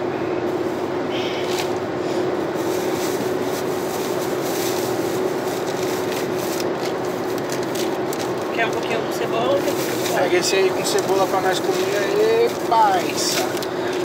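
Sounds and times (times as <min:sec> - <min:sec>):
car engine drone: 0:00.0 - 0:14.0
even hum: 0:00.0 - 0:14.0
tyre roar on asphalt: 0:00.0 - 0:14.0.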